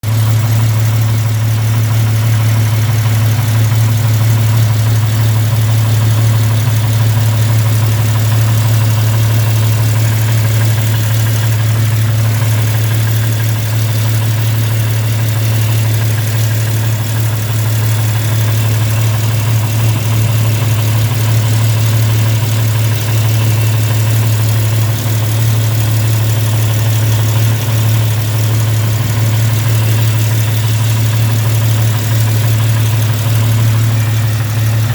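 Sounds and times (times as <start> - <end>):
car engine idling: 0.0 - 34.9
exhaust leak ticking: 0.0 - 34.9.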